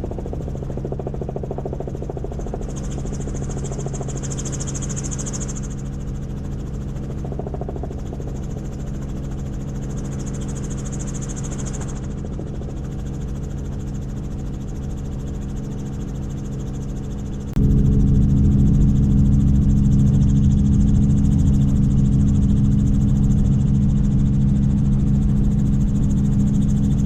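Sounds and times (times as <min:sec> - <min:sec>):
helicopter engine and rotor drone: 0:00.0 - 0:27.0.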